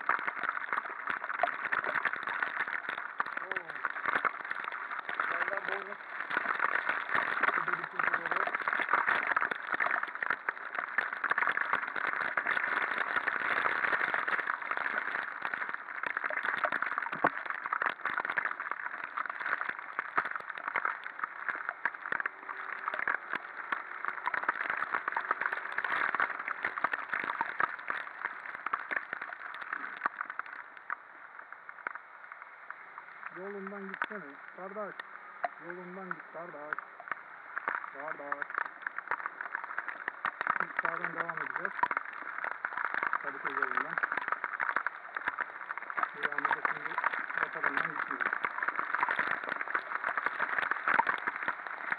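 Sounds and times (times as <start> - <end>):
heavy rain on camera: 0.0 - 51.9.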